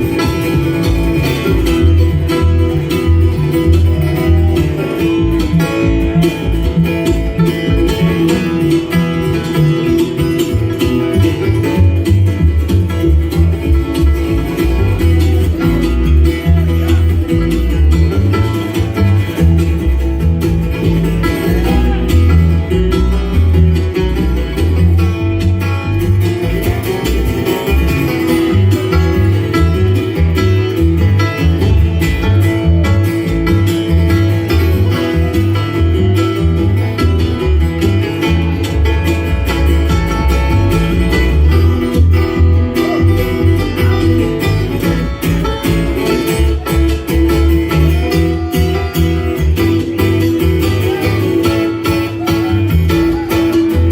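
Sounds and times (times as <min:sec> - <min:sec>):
banjo: 0:00.0 - 0:53.9
bass line: 0:00.0 - 0:53.9
picked acoustic guitar: 0:00.0 - 0:53.9.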